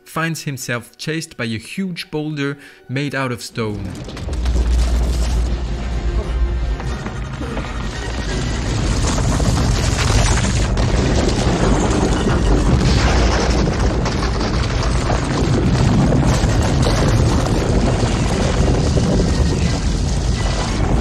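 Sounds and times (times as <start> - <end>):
boulder rolling rumble: 3.6 - 21.0.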